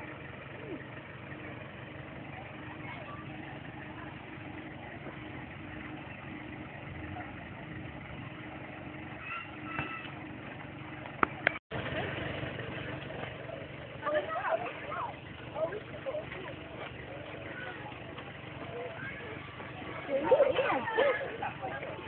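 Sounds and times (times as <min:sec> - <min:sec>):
diesel locomotive engine humming: 0:00.0 - 0:22.0.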